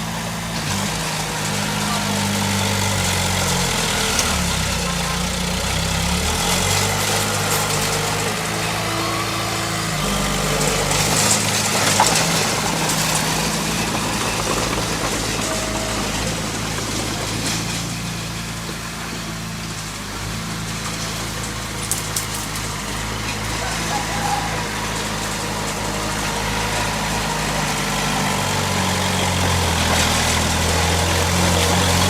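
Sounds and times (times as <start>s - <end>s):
heavy machinery diesel engine: 0.0s - 32.0s.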